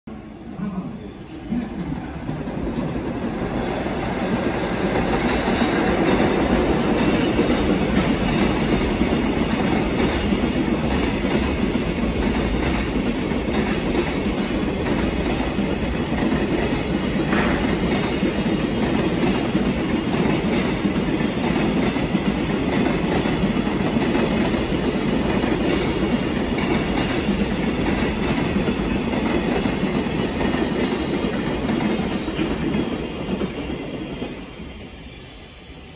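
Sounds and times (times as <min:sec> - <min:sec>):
train wheels clattering on rails: 0:02.0 - 0:34.7.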